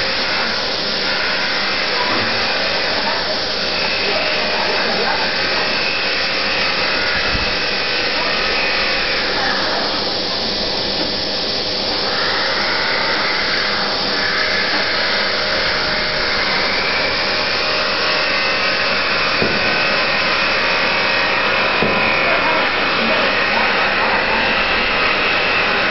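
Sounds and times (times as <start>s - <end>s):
popcorn machine whirring and rasping: 0.0s - 25.9s.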